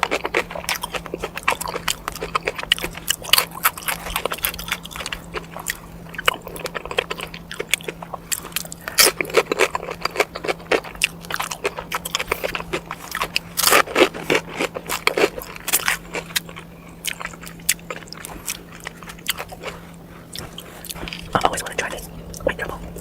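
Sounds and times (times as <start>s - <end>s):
chewing and crunching: 0.0s - 23.0s
faint steady hum: 0.0s - 23.0s.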